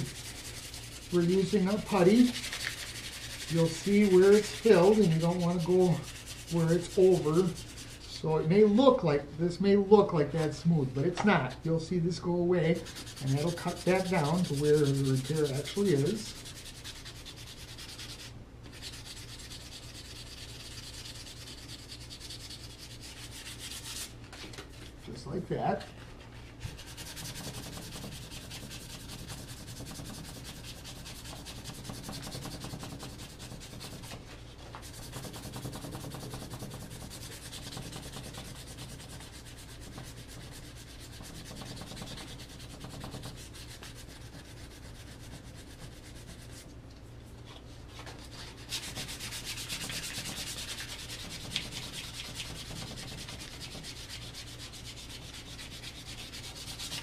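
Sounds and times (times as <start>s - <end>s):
sandpaper rasping on wood: 0.0s - 8.1s, 12.7s - 24.1s, 26.7s - 46.7s, 48.0s - 57.0s.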